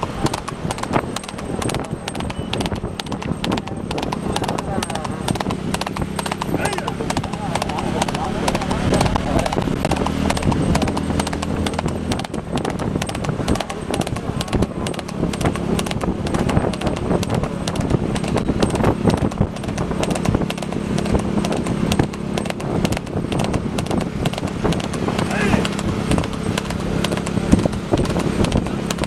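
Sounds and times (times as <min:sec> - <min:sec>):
motorcycle engines running: 0:00.0 - 0:29.0.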